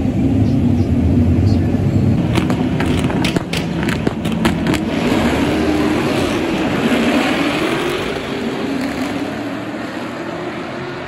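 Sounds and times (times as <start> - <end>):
race cars accelerating: 0.0 - 11.0.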